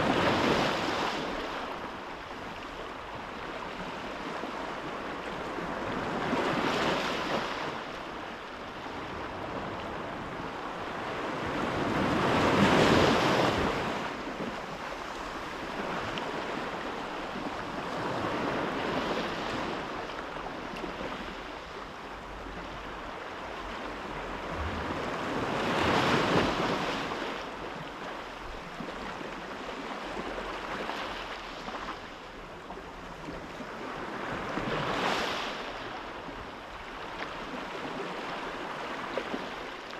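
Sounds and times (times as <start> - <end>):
sea waves washing in: 0.0 - 39.9
wind: 0.0 - 39.9.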